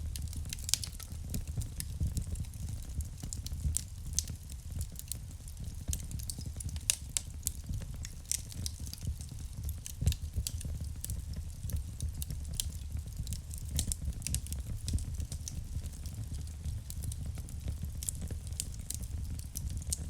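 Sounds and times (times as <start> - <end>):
burning logs popping and crackling: 0.0 - 20.0
wood fire rumbling: 0.0 - 20.0.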